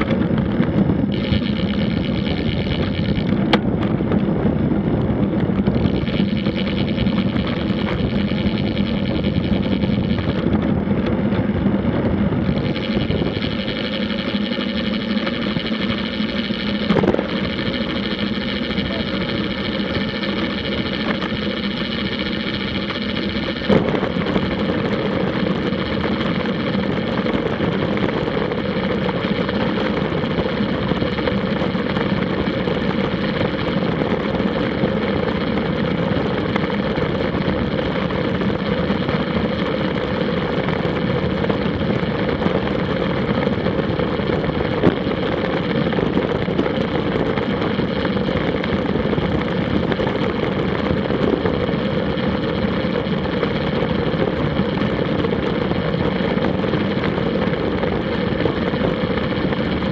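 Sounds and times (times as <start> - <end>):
tyre road noise: 0.0 - 59.9.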